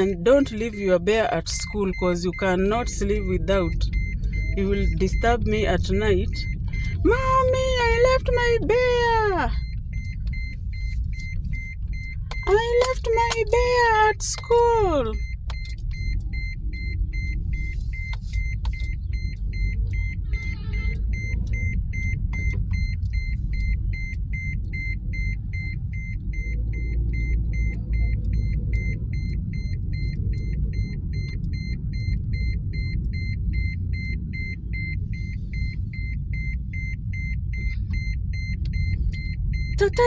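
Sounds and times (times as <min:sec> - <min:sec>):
car warning chime beeping: 0:00.0 - 0:40.0
low rumble of car driving: 0:00.0 - 0:40.0.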